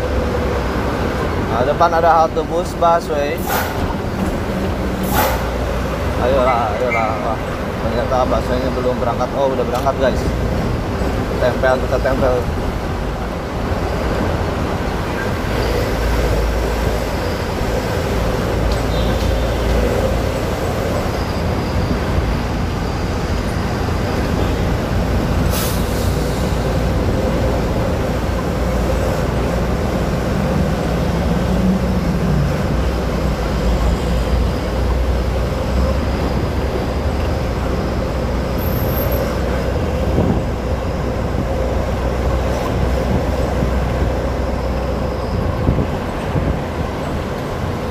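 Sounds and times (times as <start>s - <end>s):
diesel engine drone: 0.0s - 47.9s
road rumble: 0.0s - 47.9s.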